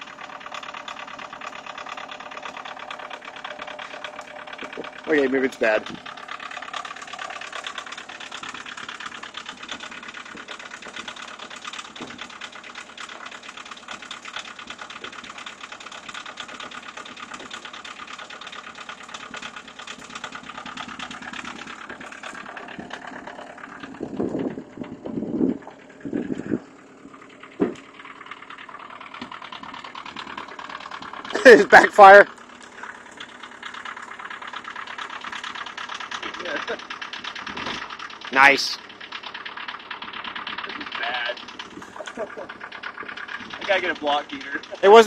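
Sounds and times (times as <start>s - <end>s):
diesel engine clatter: 0.0s - 45.0s.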